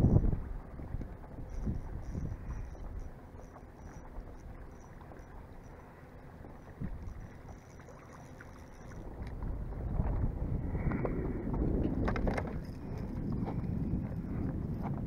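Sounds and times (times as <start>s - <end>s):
wind rumbling on microphone: 0.0s - 5.5s, 6.5s - 15.0s
water lapping against raft: 0.3s - 15.0s.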